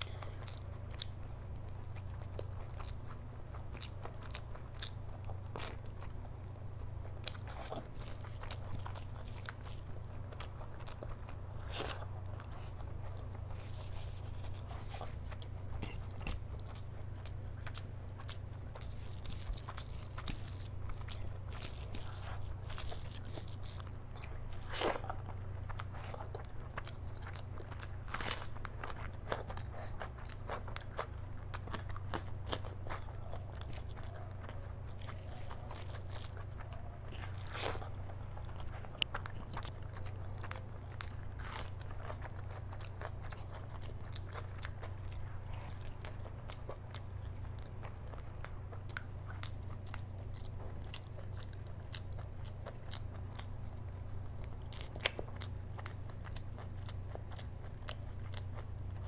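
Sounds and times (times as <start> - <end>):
steady low hum: 0.0 - 59.0
wet chewing and mouth clicks: 0.0 - 59.0.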